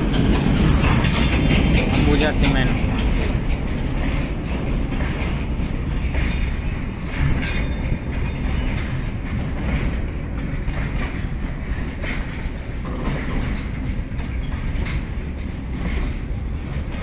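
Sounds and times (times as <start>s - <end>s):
freight wagons rumbling on rails: 0.0s - 17.0s.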